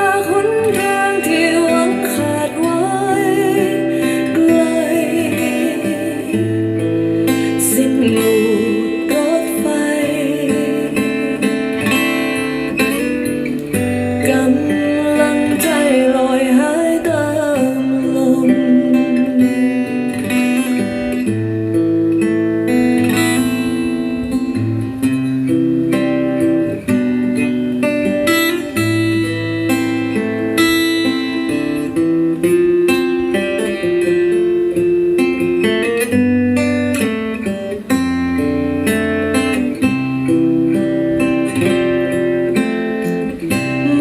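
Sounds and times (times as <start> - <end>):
plucked guitar melody: 0.0 - 44.0.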